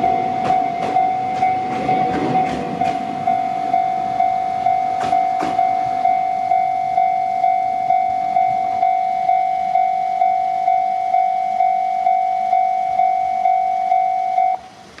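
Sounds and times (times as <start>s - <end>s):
level crossing warning bell: 0.0s - 14.8s.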